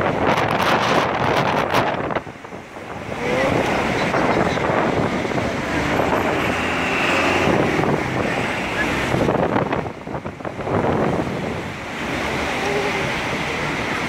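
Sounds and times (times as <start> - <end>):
road traffic noise: 0.0 - 14.0
wind buffeting microphone: 0.0 - 14.0.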